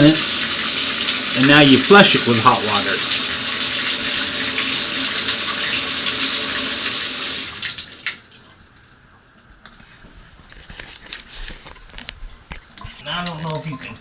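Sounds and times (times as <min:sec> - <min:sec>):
water running from bathtub faucet: 0:00.0 - 0:14.0.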